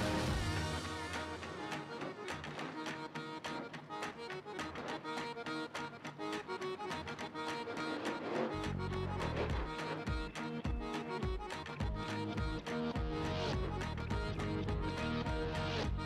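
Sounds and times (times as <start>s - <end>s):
music with fast beat: 0.0s - 16.0s.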